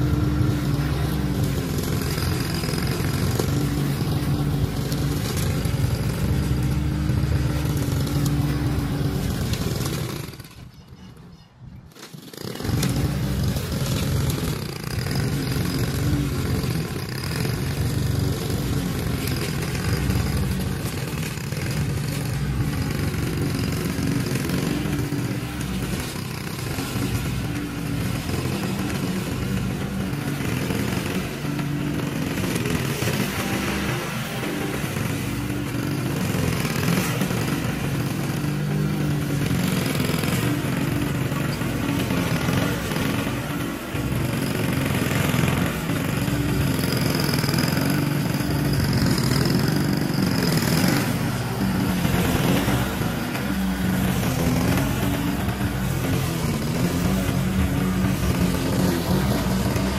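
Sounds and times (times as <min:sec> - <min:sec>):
lawn mower cutting grass: 0:00.0 - 0:59.9.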